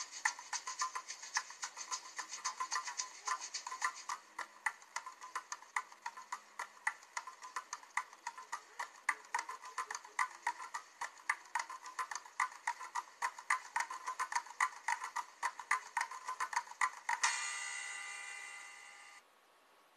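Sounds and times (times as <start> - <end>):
rapid light clicking: 0.0 - 17.5.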